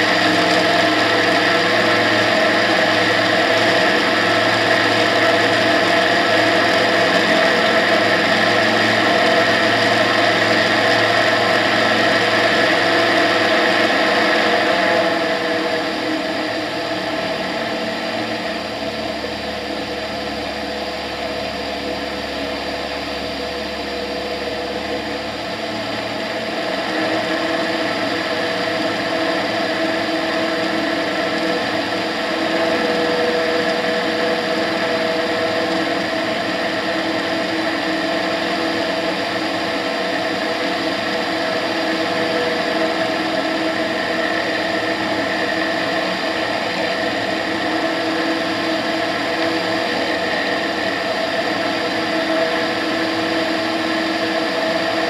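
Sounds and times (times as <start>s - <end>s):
light aircraft engine and propeller: 0.0s - 55.0s.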